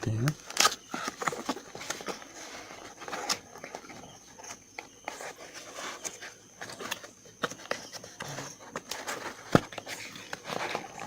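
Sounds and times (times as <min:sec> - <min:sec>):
cardboard packaging rustling: 0:00.0 - 0:11.0.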